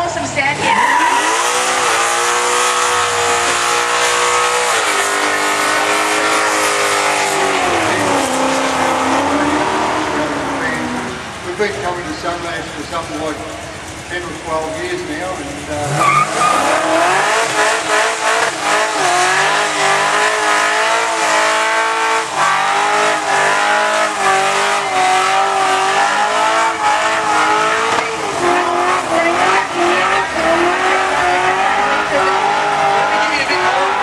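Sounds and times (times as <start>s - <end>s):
car engine revving: 0.0s - 34.0s
tyre squeal: 0.6s - 11.1s, 15.8s - 34.0s.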